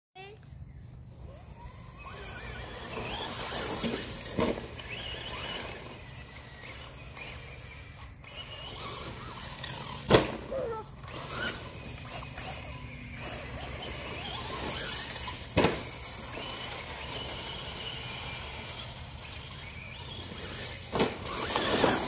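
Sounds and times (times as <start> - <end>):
toy truck electric motors whining: 0.6 - 22.0.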